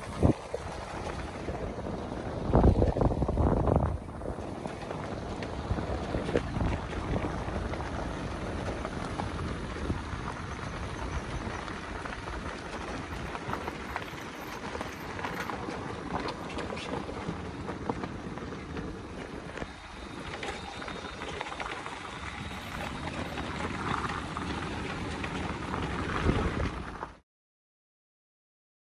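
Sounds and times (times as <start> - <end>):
motorbike tyres on gravel: 0.0 - 27.2
wind on microphone: 0.0 - 27.2.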